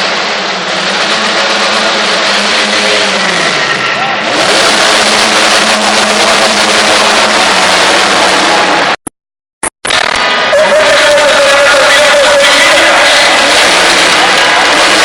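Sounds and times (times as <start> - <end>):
monster truck engine running: 0.0 - 9.0, 9.8 - 15.0.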